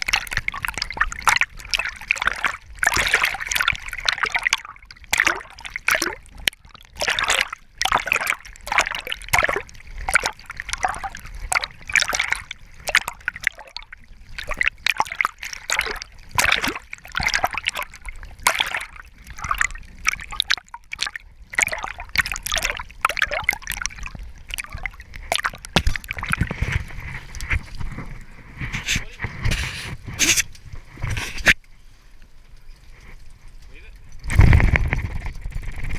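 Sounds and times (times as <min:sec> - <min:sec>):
water splashing and sloshing: 0:00.0 - 0:35.9.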